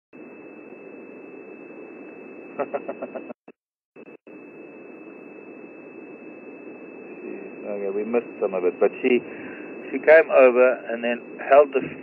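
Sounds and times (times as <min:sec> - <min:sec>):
faint high steady tone: 0:00.2 - 0:03.3, 0:04.0 - 0:12.0.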